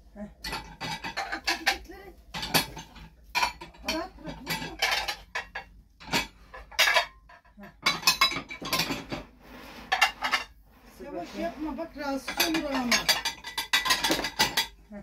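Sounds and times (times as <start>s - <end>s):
plates clattering and clinking: 0.4s - 10.6s, 12.2s - 14.9s.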